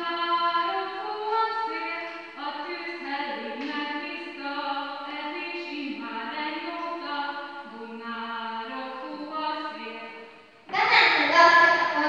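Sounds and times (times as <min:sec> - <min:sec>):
girls singing unaccompanied: 0:00.0 - 0:12.0.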